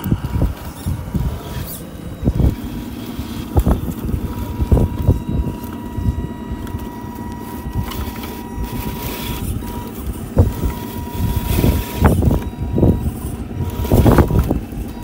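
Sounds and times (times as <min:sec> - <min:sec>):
irregular bumps: 0:00.0 - 0:15.0
low rumbling: 0:00.0 - 0:15.0
small electric motor whining: 0:00.0 - 0:15.0.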